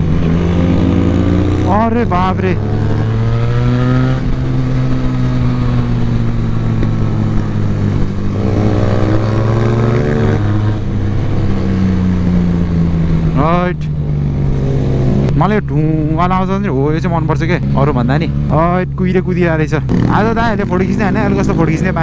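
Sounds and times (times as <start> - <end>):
motorcycle engine under load: 0.0 - 22.0.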